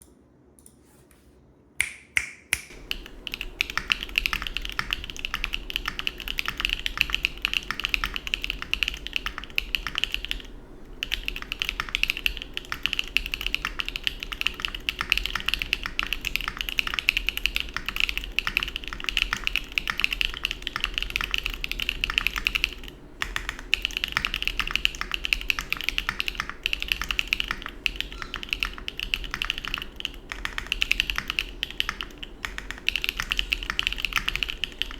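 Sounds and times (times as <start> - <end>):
fast mechanical keyboard typing: 2.7 - 34.9.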